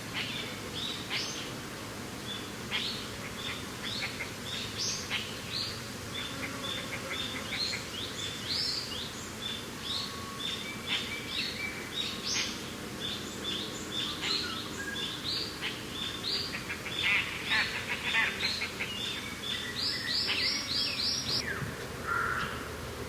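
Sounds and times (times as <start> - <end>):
songbirds chirping: 0.1 - 22.8.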